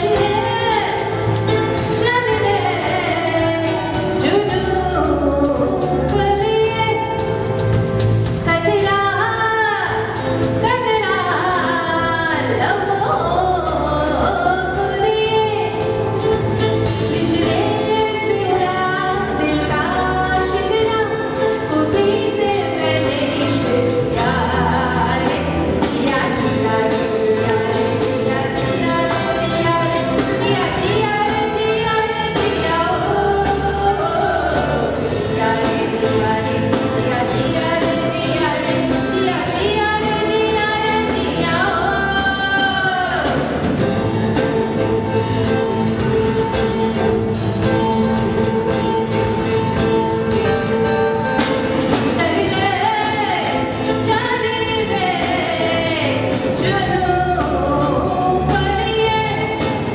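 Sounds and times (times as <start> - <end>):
bass notes: 0.0 - 59.9
live band playing: 0.0 - 59.9
woman singing: 0.0 - 59.9.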